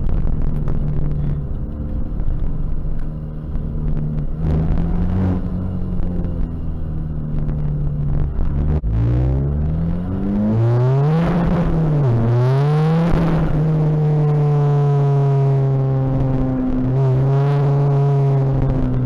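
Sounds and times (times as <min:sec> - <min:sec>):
diesel car engine accelerating: 0:00.0 - 0:19.0.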